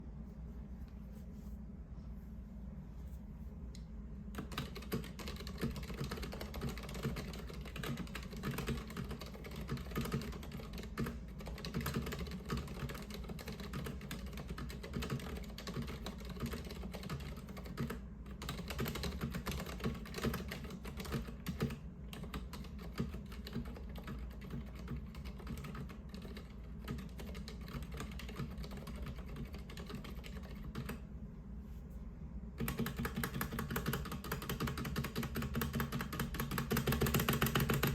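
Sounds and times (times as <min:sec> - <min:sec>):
steady low hum: 0:00.0 - 0:37.9
mechanical keyboard typing: 0:04.3 - 0:31.0, 0:32.6 - 0:37.9.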